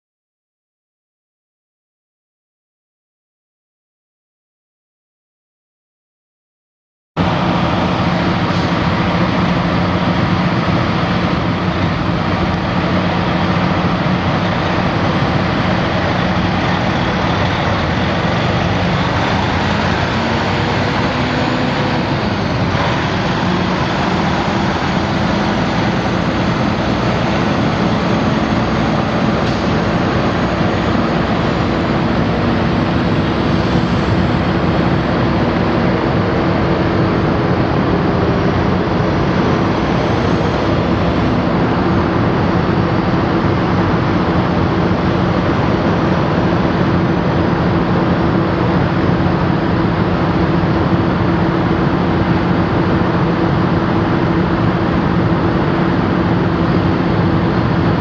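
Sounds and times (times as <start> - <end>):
truck diesel engine running: 7.2 - 58.0.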